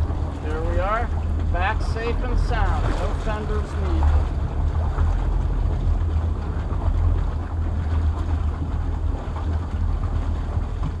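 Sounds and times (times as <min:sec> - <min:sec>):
boat engines idling: 0:00.0 - 0:11.0.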